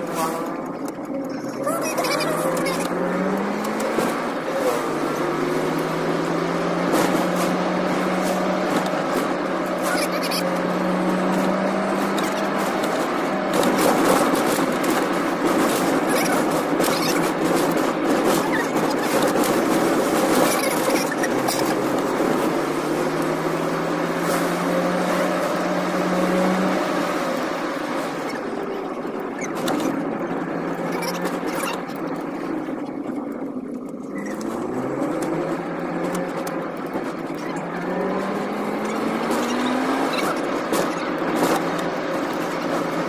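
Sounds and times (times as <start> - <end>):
car engine running: 0.0 - 43.0
road noise: 0.0 - 43.0.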